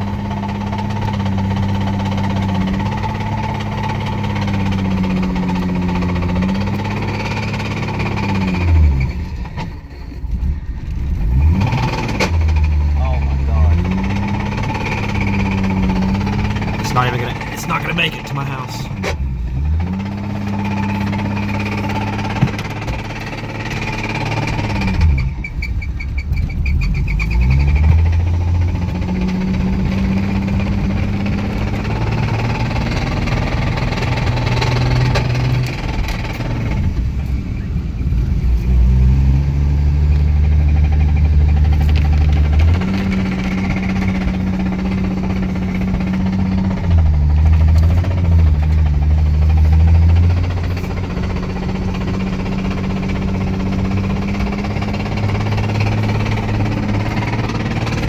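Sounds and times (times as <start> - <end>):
engine knocking: 0.0 - 37.3, 40.1 - 58.0
car engine revving under load: 0.0 - 58.0.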